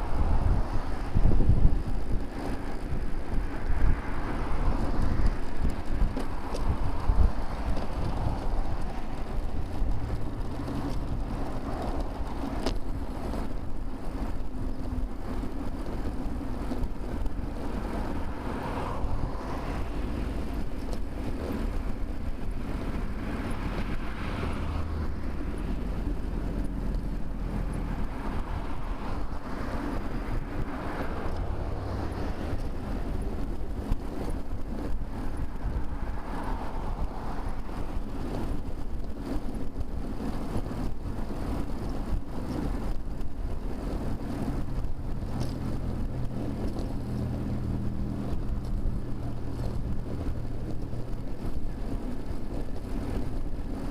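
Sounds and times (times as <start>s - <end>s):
motor traffic: 0.0s - 53.9s
road and wind noise: 0.0s - 53.9s.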